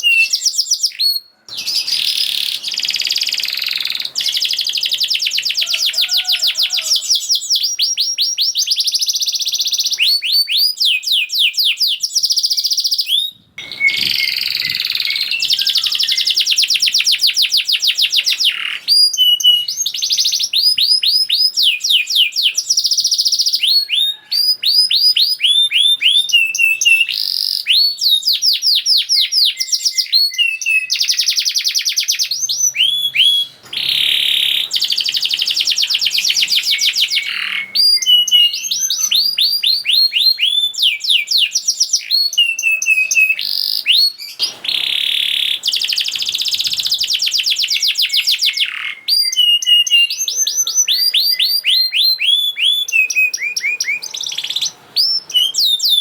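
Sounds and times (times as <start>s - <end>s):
canary singing rapid trills: 0.0s - 10.0s, 10.6s - 56.0s.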